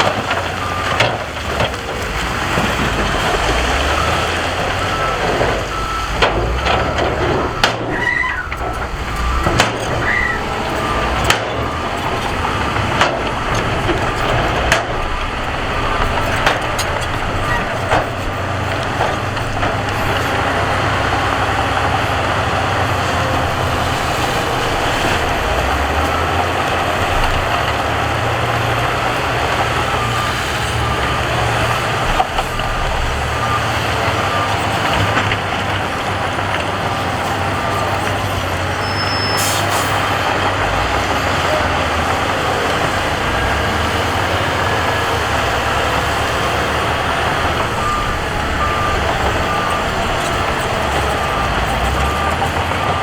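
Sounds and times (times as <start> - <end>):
reversing alarm beeping: 0.0 - 2.0, 2.6 - 18.0, 19.0 - 53.0
heavy machine diesel engines: 0.0 - 53.0.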